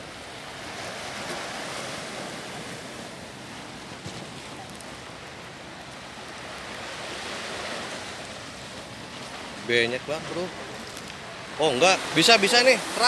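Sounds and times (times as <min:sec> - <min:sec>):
sea waves washing ashore: 0:00.0 - 0:13.0.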